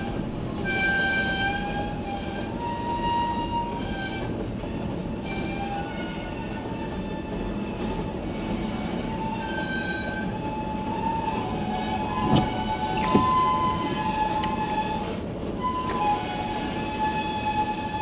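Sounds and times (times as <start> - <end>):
high-pitched wheel squeal: 0.0 - 18.0
train wheels rumbling on rail: 0.0 - 18.0.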